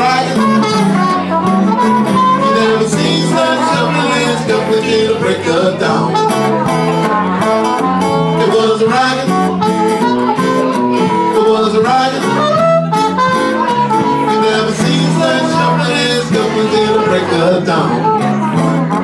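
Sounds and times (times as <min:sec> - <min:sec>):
blues band playing: 0:00.0 - 0:19.0
electric bass line: 0:00.0 - 0:19.0
melodic lead notes: 0:00.0 - 0:19.0.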